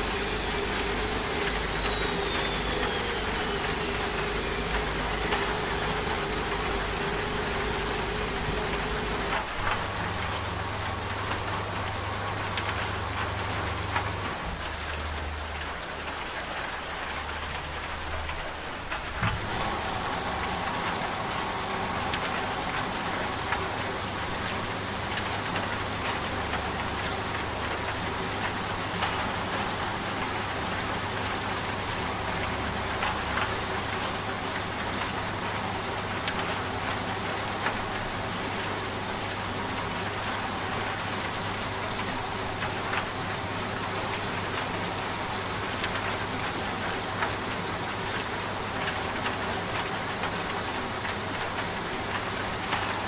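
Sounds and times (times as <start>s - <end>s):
rain falling: 0.0s - 53.0s
washing machine hum: 0.0s - 53.0s.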